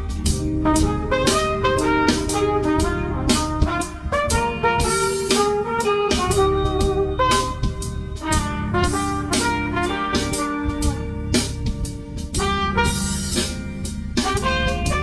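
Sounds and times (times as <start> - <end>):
jazz tune with horn and drums: 0.0 - 15.0.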